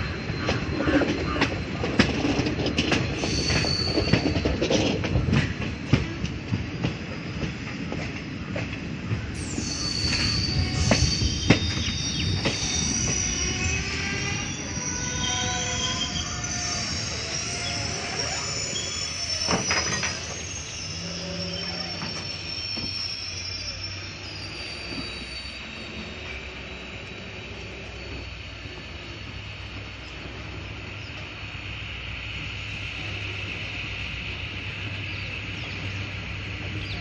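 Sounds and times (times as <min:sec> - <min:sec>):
train rumble and hiss: 0:00.0 - 0:37.0
train wheels squealing: 0:00.0 - 0:37.0.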